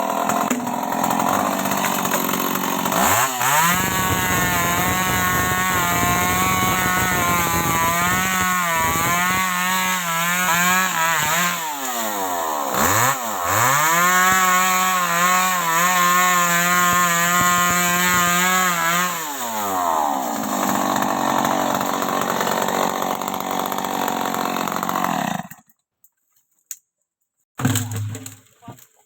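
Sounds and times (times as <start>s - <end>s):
chainsaw revving: 0.0s - 25.6s.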